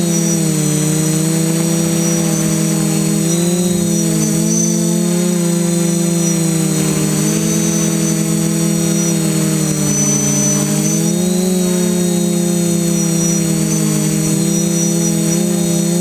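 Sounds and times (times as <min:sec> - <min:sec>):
quadcopter motors buzzing: 0:00.0 - 0:16.0.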